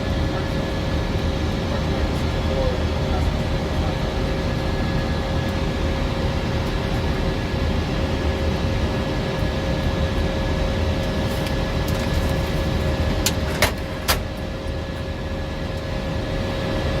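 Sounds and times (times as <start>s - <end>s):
airflow and engine rumble: 0.0s - 17.0s.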